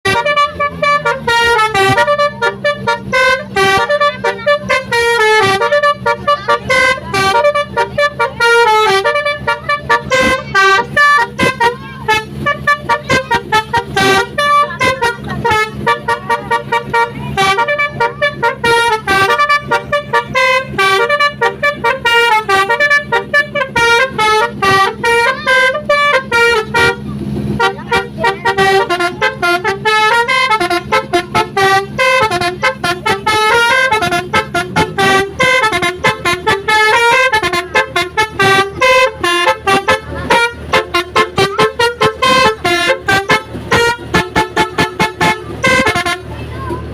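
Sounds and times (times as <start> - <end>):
multi-tone bus horn tune: 0.0 - 46.9.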